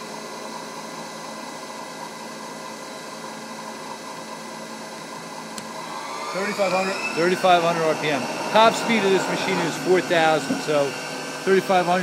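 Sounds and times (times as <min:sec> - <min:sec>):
lathe spindle whirring: 0:00.2 - 0:12.0.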